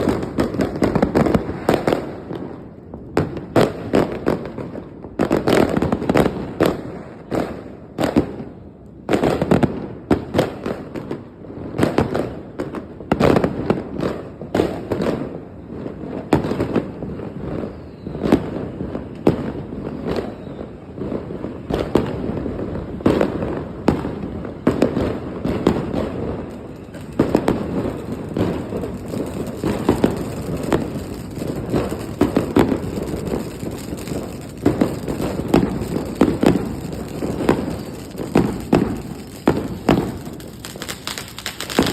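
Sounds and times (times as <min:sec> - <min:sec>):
firecrackers banging: 0:00.0 - 0:15.4, 0:18.3 - 0:41.9.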